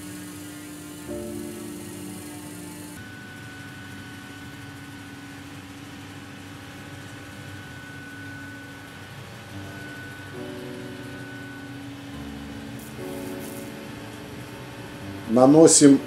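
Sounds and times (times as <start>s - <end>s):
mechanical hum with high whine: 0.0s - 16.0s.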